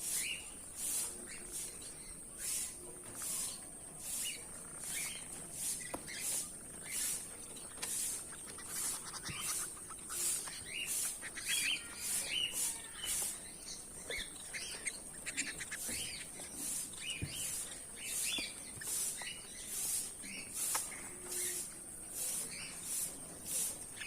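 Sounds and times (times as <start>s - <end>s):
finches chirping: 1.2s - 21.6s.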